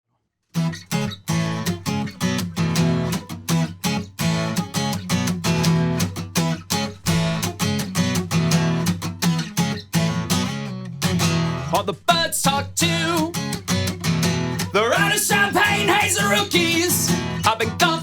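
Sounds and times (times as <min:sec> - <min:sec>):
acoustic guitar strumming: 0:00.6 - 0:18.0.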